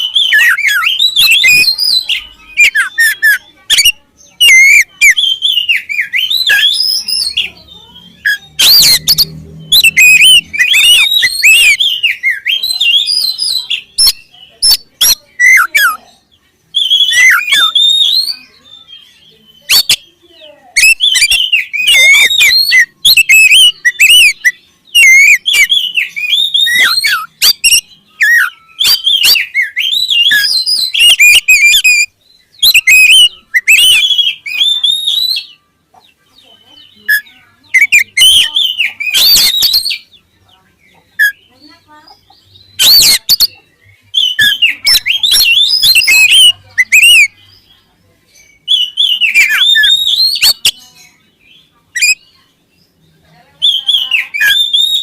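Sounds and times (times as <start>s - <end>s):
bird singing whistles and chatter: 0.0s - 55.0s.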